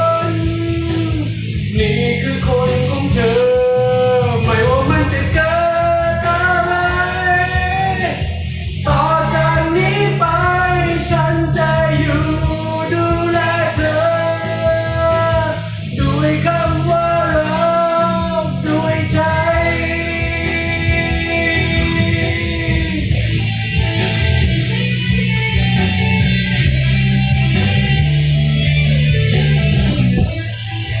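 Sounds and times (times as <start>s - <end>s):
rock band playing: 0.0s - 31.0s.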